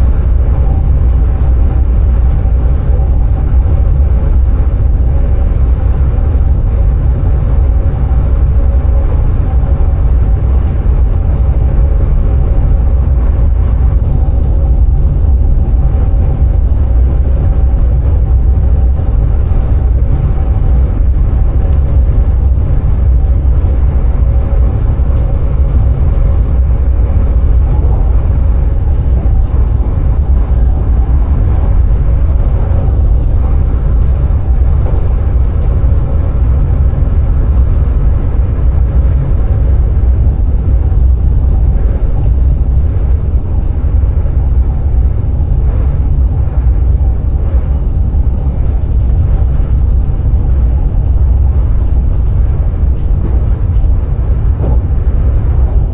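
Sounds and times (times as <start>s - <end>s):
train rumble: 0.0s - 55.9s.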